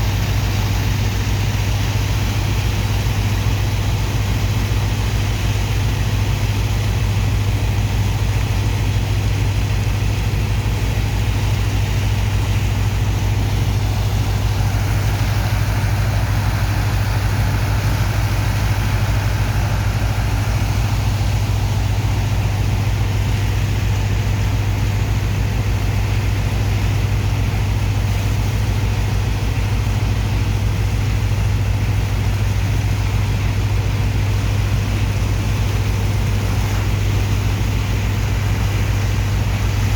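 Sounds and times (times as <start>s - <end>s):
large diesel engine humming: 0.0s - 39.9s.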